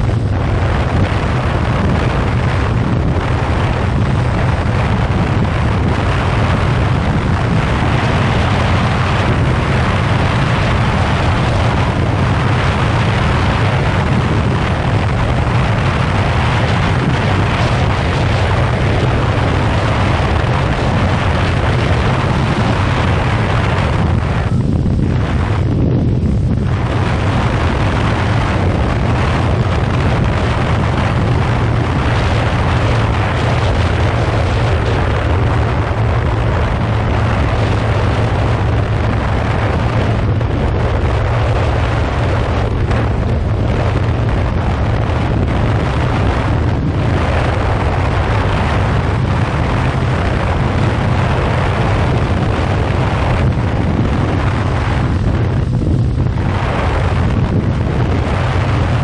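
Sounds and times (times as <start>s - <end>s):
motorcycle engine drone: 0.0s - 59.0s
wind noise on microphone: 0.0s - 59.0s.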